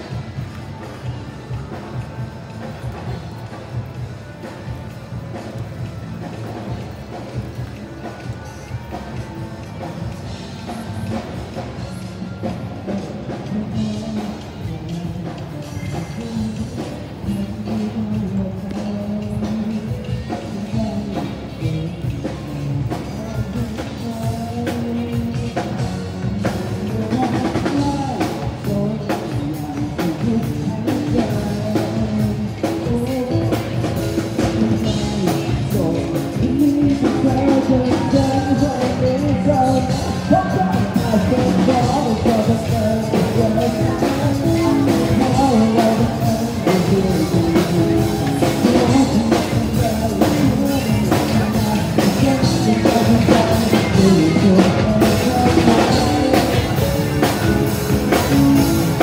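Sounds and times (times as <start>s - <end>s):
rock music with singing: 0.0s - 59.0s.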